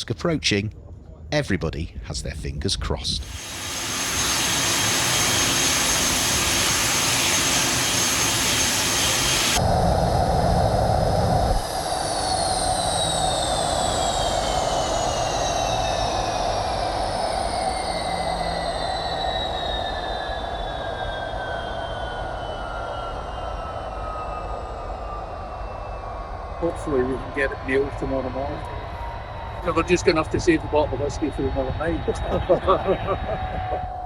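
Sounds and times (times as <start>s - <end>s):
jet engine roar: 2.8s - 34.0s
turbine whine winding down: 3.1s - 34.0s.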